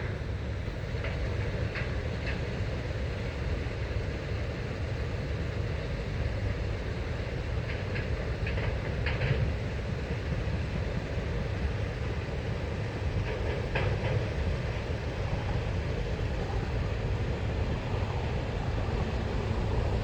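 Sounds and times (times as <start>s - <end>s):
train wheels clicking over rail joints: 0.0s - 3.2s, 6.3s - 20.0s
low rumble of train: 0.0s - 20.0s.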